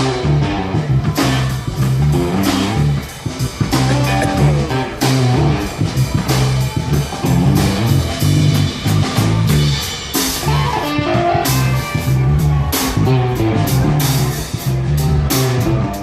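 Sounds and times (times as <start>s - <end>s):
bass guitar: 0.0s - 16.0s
drum kit and cymbals: 0.0s - 16.0s
electric guitar: 0.0s - 16.0s.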